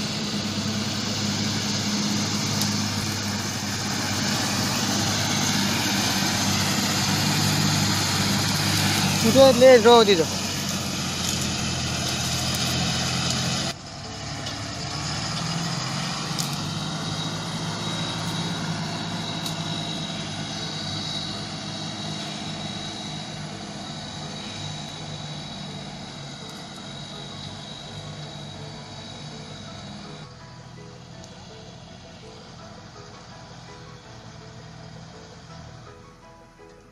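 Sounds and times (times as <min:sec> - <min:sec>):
truck diesel engine running: 0:00.0 - 0:36.9.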